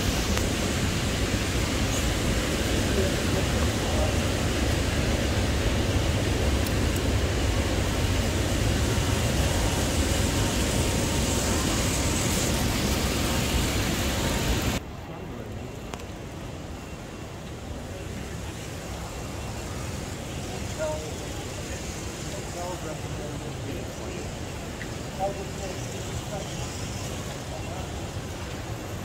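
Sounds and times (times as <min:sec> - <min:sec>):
busy hall rumble and hiss: 0:00.0 - 0:29.0.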